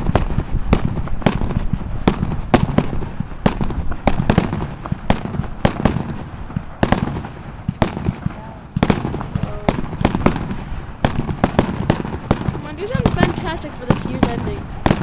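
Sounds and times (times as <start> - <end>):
continuous low rumble: 0.0 - 15.0
fireworks bangs and cracks: 0.0 - 15.0.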